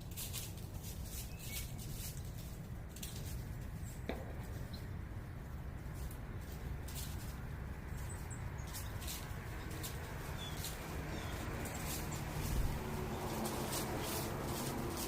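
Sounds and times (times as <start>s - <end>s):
low urban rumble: 0.0s - 15.0s.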